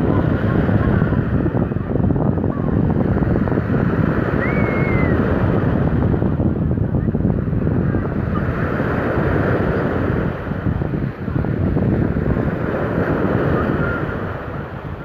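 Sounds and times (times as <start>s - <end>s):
waves breaking on shore: 0.0s - 15.0s
wind buffeting microphone: 0.0s - 15.0s.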